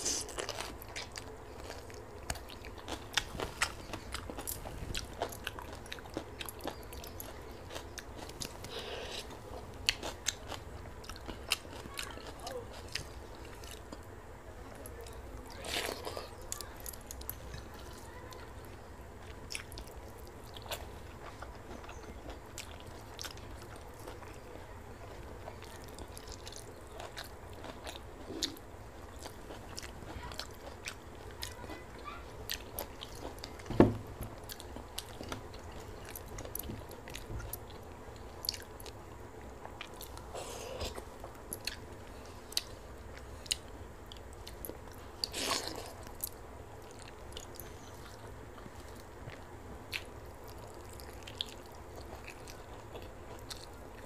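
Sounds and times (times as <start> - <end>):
person chewing crunchy food: 0.0 - 14.2, 19.1 - 24.4, 25.1 - 54.0.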